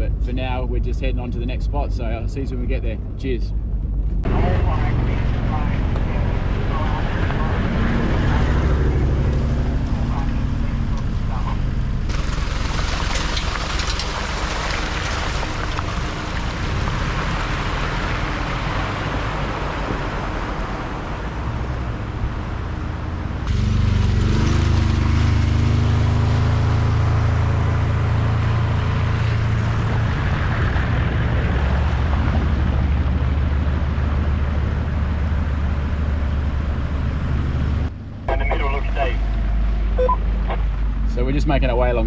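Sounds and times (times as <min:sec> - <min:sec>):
off-road vehicle engine: 0:00.0 - 0:42.0.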